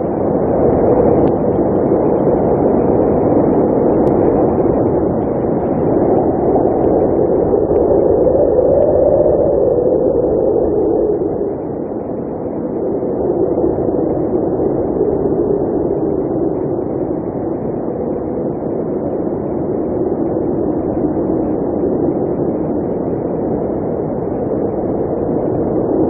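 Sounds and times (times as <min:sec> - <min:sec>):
blizzard wind blowing hard: 0:00.0 - 0:26.0.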